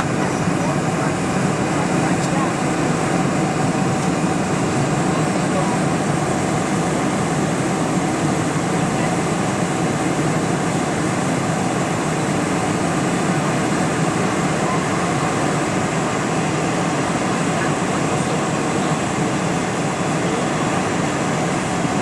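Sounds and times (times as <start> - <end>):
airliner cabin noise: 0.0 - 22.0.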